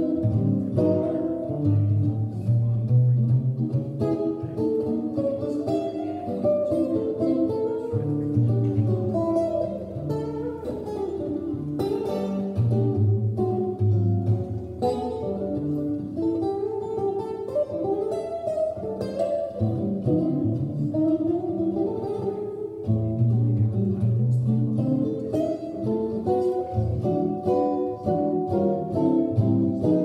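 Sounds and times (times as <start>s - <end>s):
solo archtop guitar playing: 0.0s - 30.0s.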